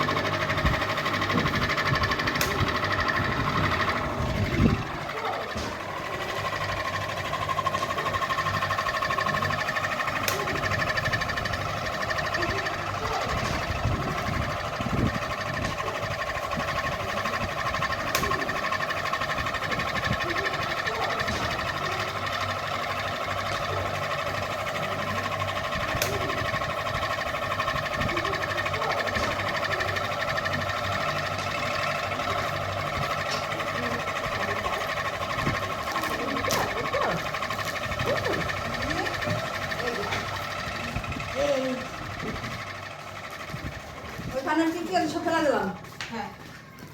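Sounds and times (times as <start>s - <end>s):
ceiling fan humming: 0.0s - 46.9s.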